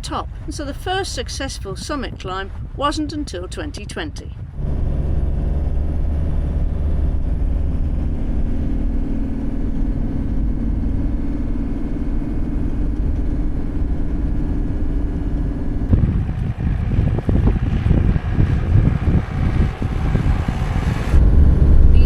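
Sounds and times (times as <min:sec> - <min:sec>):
vehicle engine and road noise: 0:00.0 - 0:22.0
wind buffeting microphone: 0:00.0 - 0:22.0.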